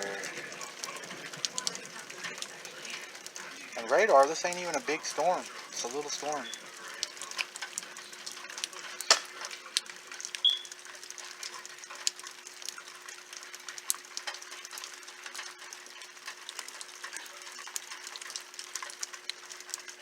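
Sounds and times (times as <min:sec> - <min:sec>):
rain falling: 0:00.0 - 0:20.0
raindrops ticking on hard surfaces: 0:00.0 - 0:20.0.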